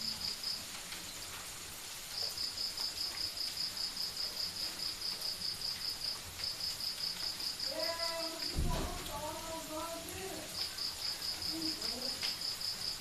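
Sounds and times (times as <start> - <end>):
cricket chirping: 0.0 - 13.0
faint steady hiss: 0.0 - 13.0.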